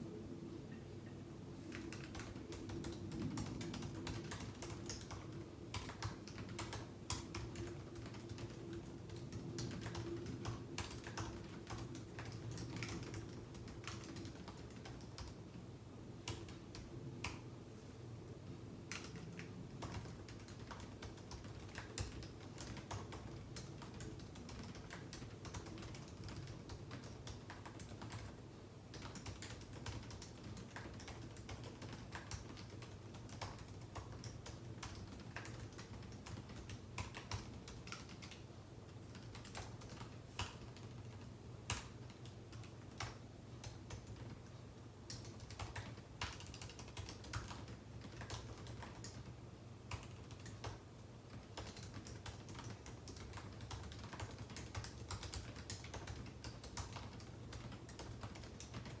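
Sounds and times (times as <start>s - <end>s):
steady low hum: 0.0s - 59.0s
typing on computer keyboard: 1.7s - 15.6s, 16.2s - 17.4s, 18.8s - 59.0s.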